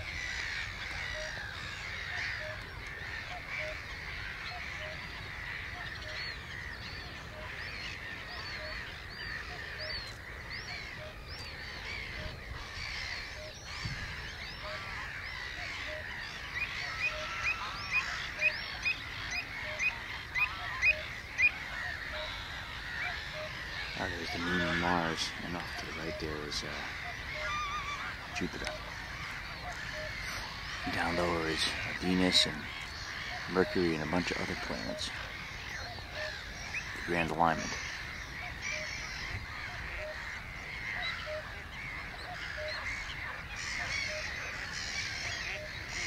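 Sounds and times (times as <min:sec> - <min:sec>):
bird calling loudly: 0:00.0 - 0:46.0
birds calling and chirping: 0:00.0 - 0:46.0.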